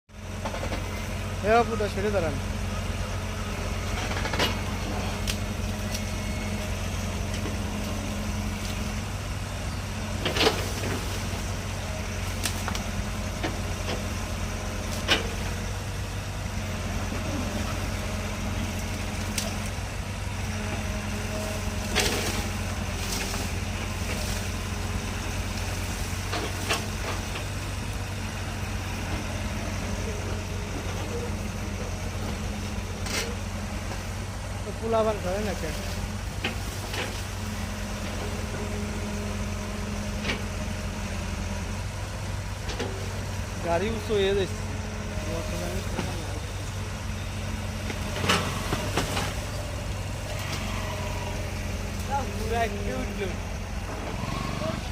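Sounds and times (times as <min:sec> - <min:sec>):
heavy vehicle engine under load: 0:00.1 - 0:54.9.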